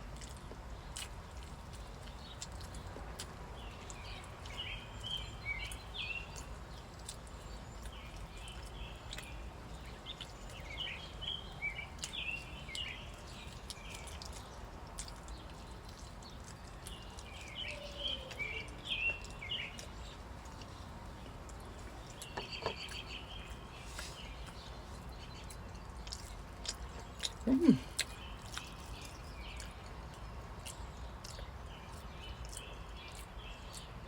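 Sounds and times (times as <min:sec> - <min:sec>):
songbird chirping: 0:00.1 - 0:34.0.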